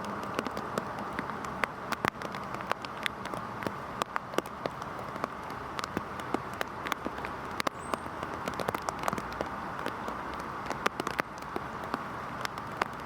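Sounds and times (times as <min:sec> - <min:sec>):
heavy rain falling: 0:00.0 - 0:13.0
raindrops hitting hard surface: 0:00.0 - 0:13.0.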